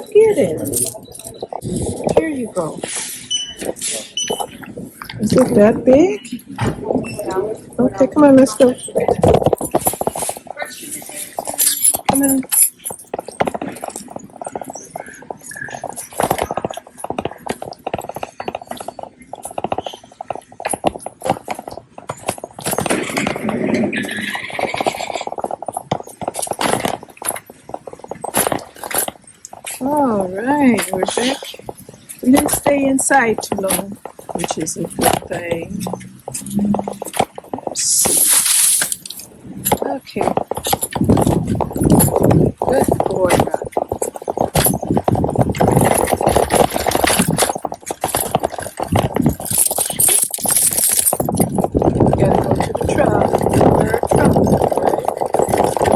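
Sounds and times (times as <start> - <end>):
shopping cart rattling: 0.0 - 55.9.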